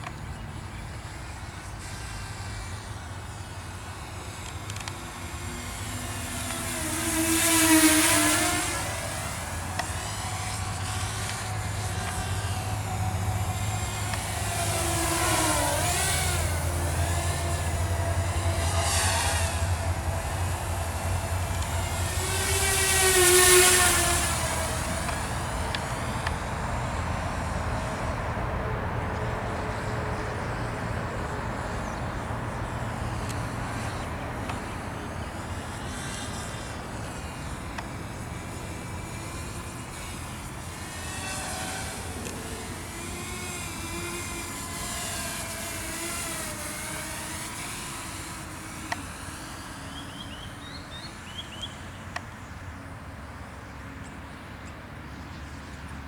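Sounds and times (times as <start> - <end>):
drone motors whining: 0.0 - 52.8.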